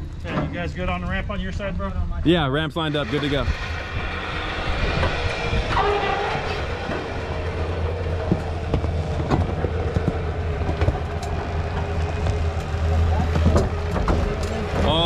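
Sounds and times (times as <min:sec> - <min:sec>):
low hum: 0:00.0 - 0:15.0
wheels and ramps creaking: 0:00.0 - 0:15.0.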